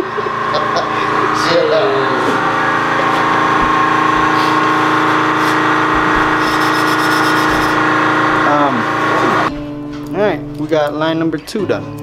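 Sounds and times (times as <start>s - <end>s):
motor humming: 0.0s - 9.8s.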